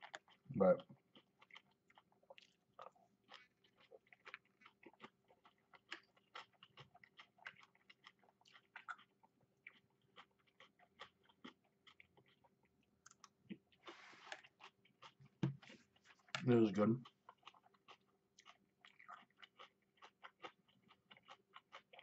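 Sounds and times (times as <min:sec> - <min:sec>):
wet chewing and crunching: 0:00.0 - 0:22.0.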